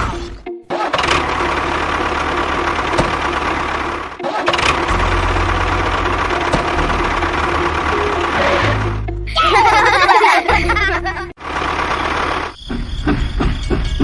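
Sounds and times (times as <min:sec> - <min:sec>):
tractor engine running: 0:00.8 - 0:14.0.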